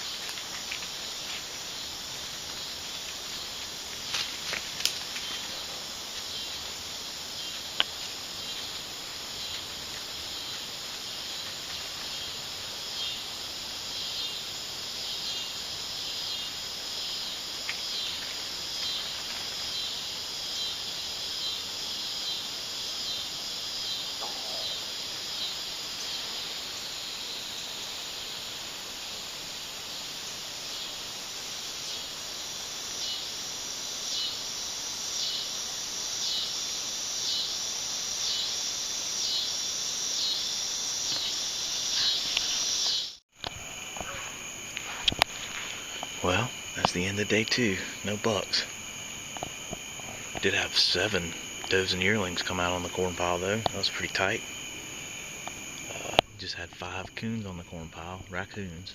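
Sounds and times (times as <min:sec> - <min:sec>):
insects buzzing: 0:00.0 - 0:58.9.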